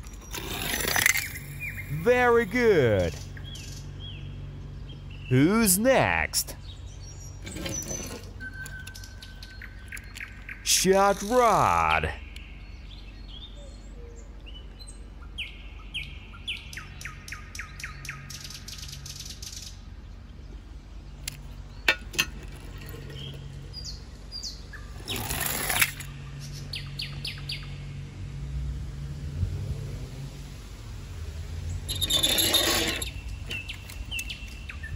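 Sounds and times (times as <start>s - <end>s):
small birds chirping: 0.0s - 28.2s, 31.6s - 34.9s.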